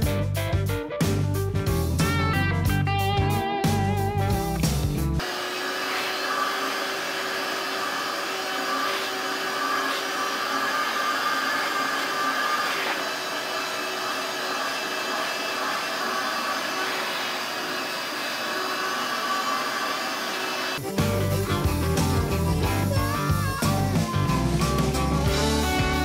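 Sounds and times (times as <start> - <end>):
vacuum whirring: 4.5 - 26.0.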